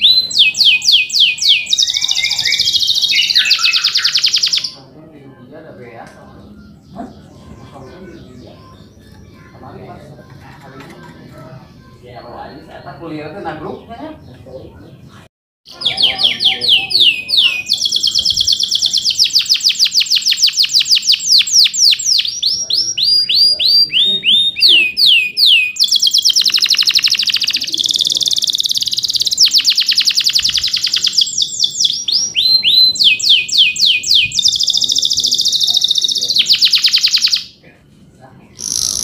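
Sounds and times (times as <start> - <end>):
canary singing trills and chirps: 0.0 - 37.6, 38.4 - 39.0.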